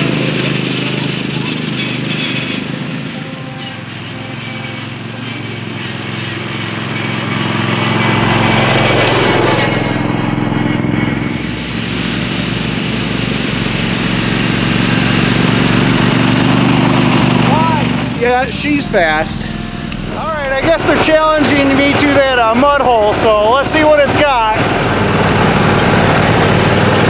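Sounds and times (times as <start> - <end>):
mower engine running hard: 0.0 - 27.0.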